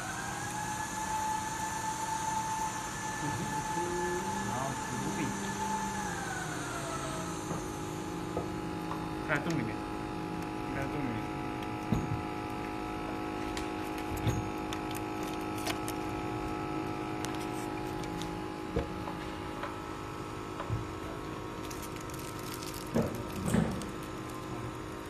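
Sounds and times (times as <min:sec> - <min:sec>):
machine electrical hum: 0:00.0 - 0:25.0.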